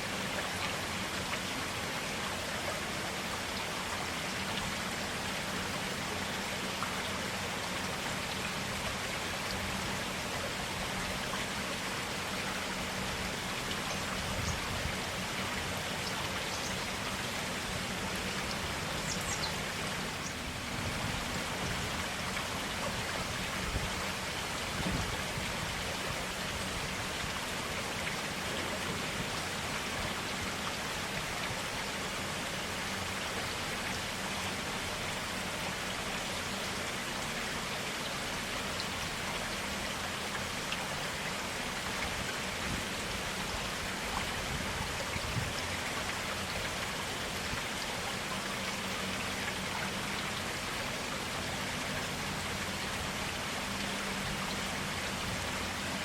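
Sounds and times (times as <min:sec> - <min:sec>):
forest stream running: 0:00.0 - 0:56.0.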